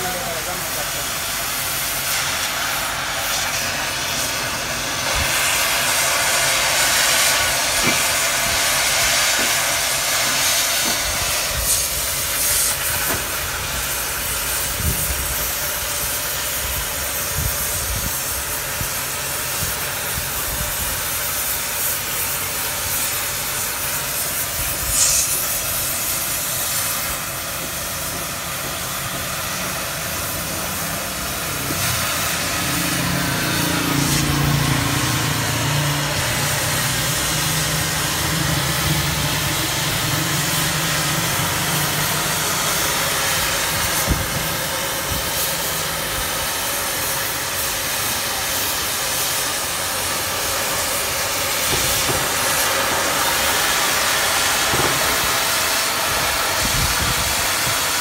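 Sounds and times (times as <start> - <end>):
cutting torch hissing: 0.0 - 58.0.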